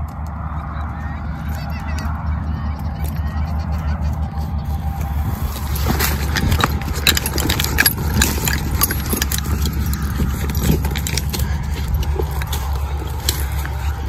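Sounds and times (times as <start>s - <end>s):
footsteps crunching through stubble: 0.0s - 14.0s
low wind rumble on microphone: 0.0s - 14.0s.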